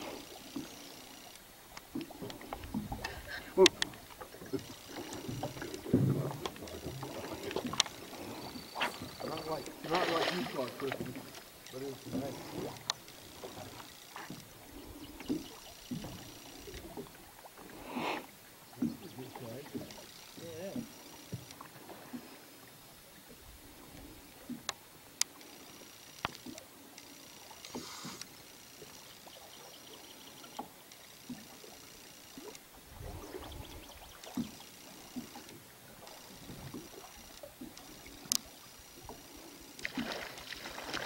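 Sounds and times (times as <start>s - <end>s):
water lapping against boat hull: 0.0s - 41.0s.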